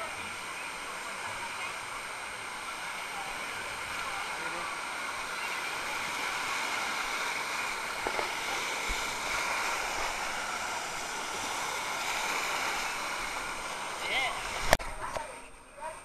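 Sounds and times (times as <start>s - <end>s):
rushing water: 0.0s - 15.3s.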